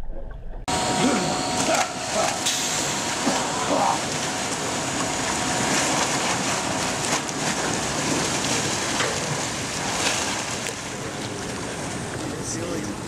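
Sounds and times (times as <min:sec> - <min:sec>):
water rushing in: 0:00.7 - 0:13.0
water splashing and churning: 0:00.7 - 0:13.0.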